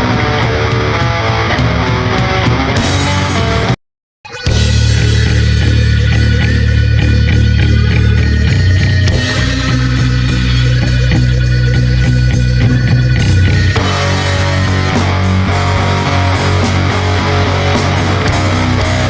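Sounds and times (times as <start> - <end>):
heavy metal band playing: 0.0 - 19.0.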